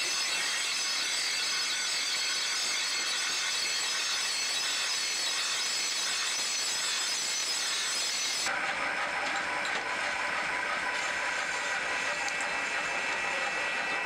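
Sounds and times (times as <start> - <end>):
blade grinding on grinding wheel: 0.0 - 14.0.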